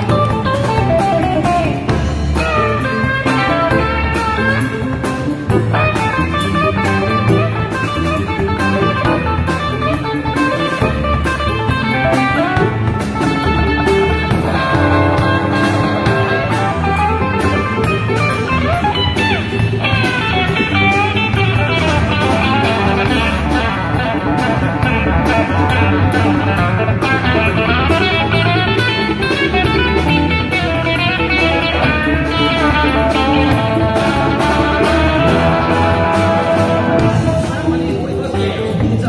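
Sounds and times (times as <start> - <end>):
bass guitar: 0.0 - 39.0
drums: 0.0 - 39.0
electric guitar lead lines: 0.0 - 39.0.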